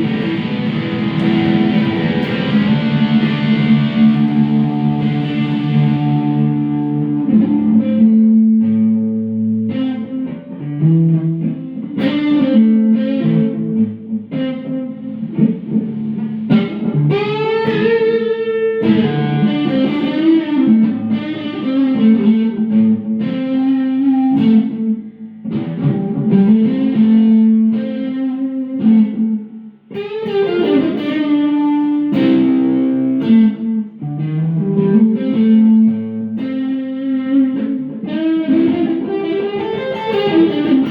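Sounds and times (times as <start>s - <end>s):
electric guitar through amp: 0.0s - 40.9s.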